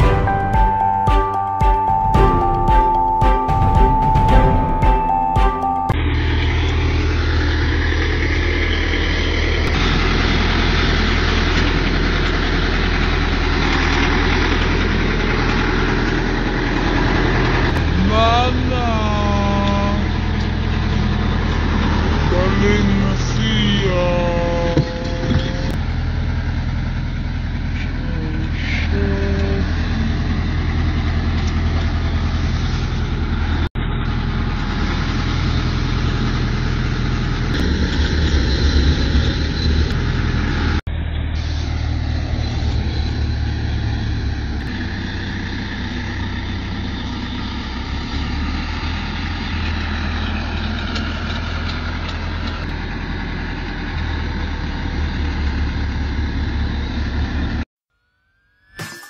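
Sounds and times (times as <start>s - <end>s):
tractor engine droning: 0.0s - 57.6s.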